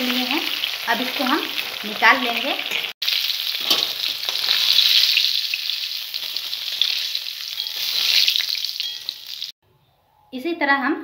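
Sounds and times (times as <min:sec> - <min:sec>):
fish sizzling in hot oil: 0:00.0 - 0:09.6.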